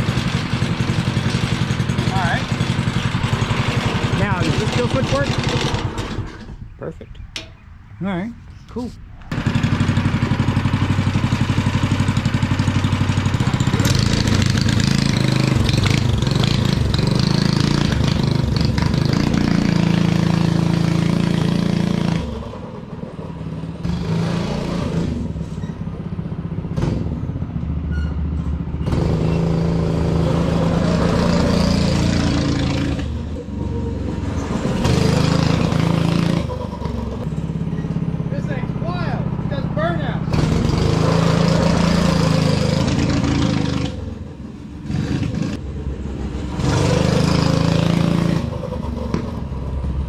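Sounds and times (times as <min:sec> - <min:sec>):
go-kart engine running: 0:00.0 - 0:06.6, 0:09.3 - 0:27.7, 0:28.8 - 0:50.0.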